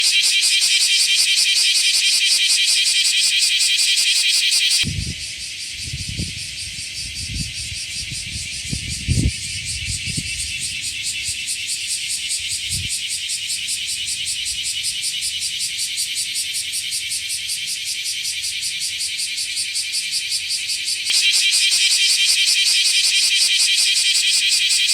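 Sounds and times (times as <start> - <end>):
cicada buzzing: 0.0 - 24.9.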